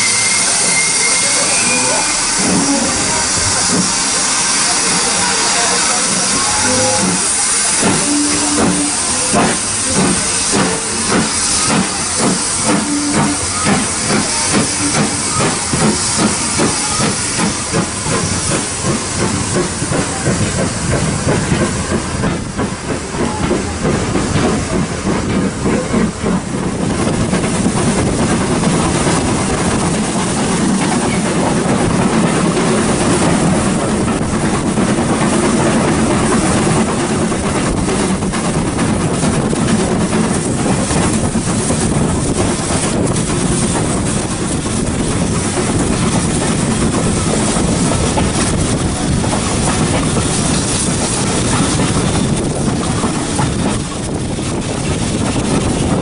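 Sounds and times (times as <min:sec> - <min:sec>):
steam locomotive exhaust beats: 0:00.0 - 0:56.0
train running noise: 0:00.0 - 0:56.0.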